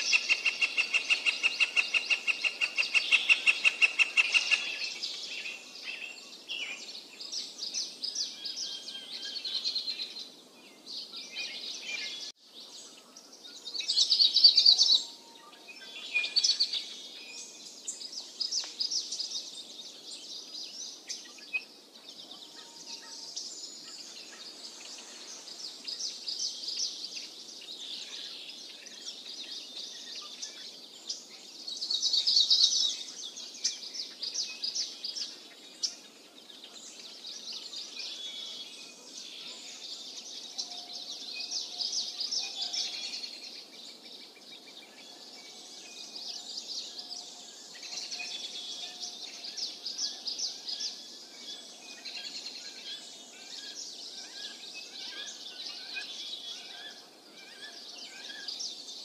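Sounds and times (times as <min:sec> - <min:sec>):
faint outdoor hiss: 0:00.0 - 0:59.0.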